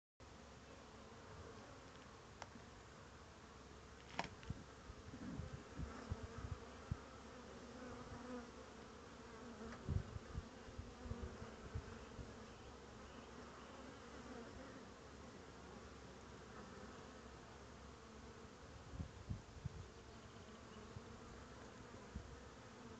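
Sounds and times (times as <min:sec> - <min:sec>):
honeybees buzzing: 0:00.9 - 0:22.9.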